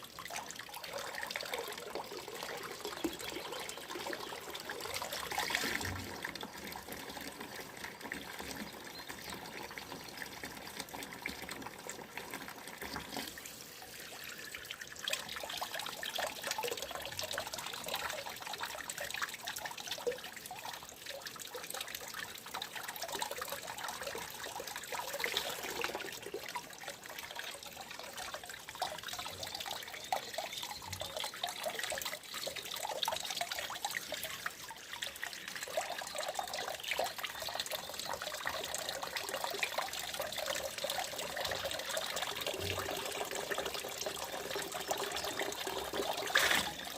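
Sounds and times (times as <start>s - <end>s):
water trickling and splashing: 0.0s - 46.9s.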